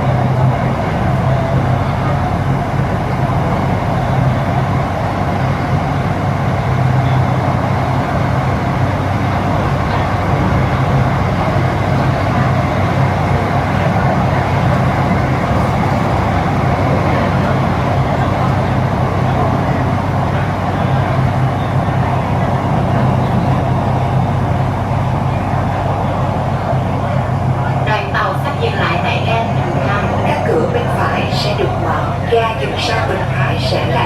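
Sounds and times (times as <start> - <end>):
low hum of train drive: 0.0 - 34.0
wheels rumbling on rails: 0.0 - 34.0.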